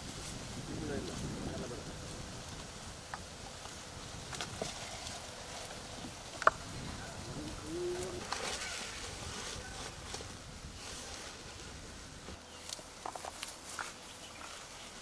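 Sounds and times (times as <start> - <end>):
banana leaves rustling and crackling: 0.0 - 15.0.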